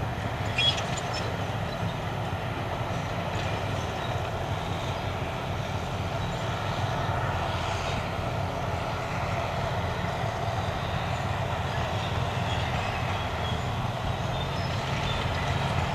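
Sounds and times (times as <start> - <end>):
diesel engine drone: 0.0 - 15.9.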